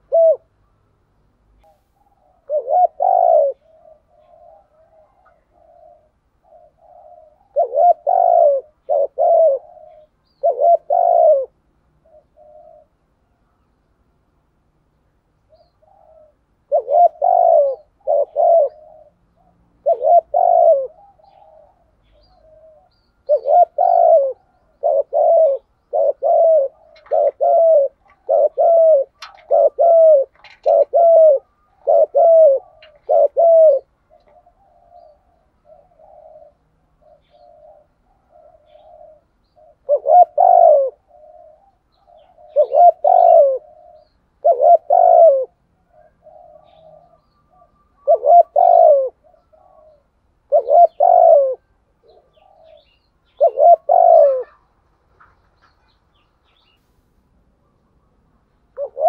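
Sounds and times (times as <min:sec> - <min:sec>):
dove cooing: 0:00.0 - 0:00.7, 0:01.4 - 0:13.5, 0:15.5 - 0:56.8, 0:57.6 - 0:59.0.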